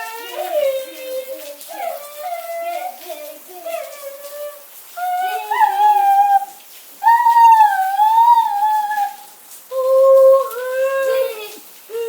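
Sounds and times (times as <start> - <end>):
child making wavering vocal sounds: 0.0 - 12.0
faint rain hiss: 0.0 - 12.0.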